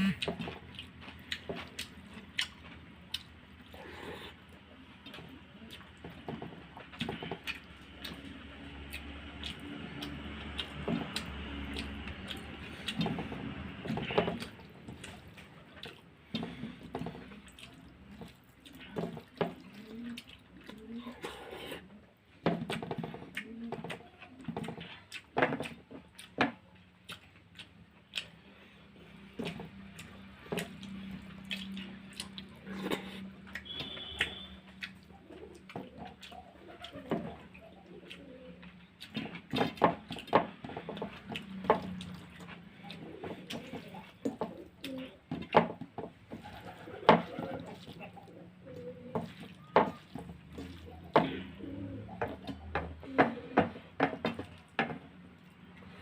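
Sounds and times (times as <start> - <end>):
person chewing wetly: 0.0 - 56.0.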